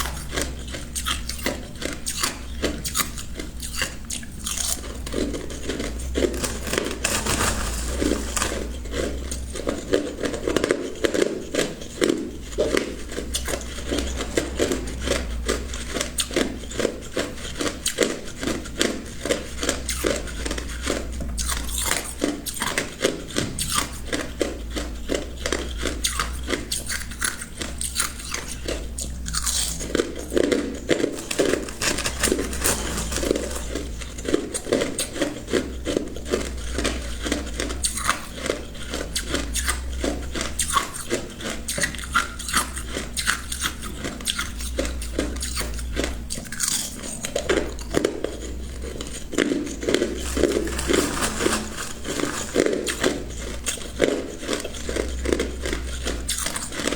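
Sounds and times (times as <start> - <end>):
chewing ice cubes: 0.0 - 56.9.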